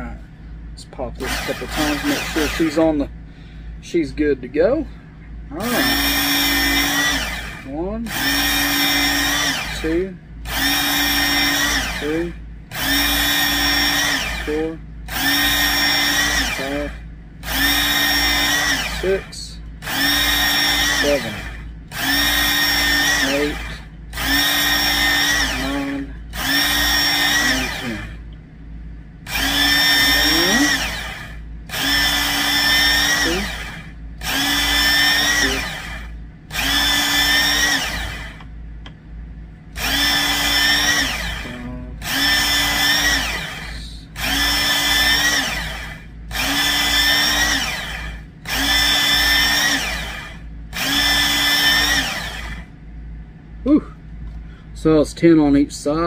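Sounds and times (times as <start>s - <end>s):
electric belt sharpener motor whine: 1.2s - 3.0s, 5.6s - 28.2s, 29.3s - 38.5s, 39.8s - 52.7s.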